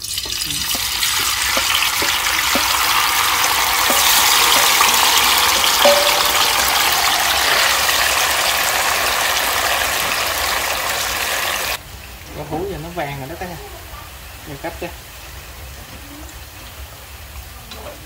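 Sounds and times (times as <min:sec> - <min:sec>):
tofu sizzling in hot oil: 0:00.0 - 0:18.0.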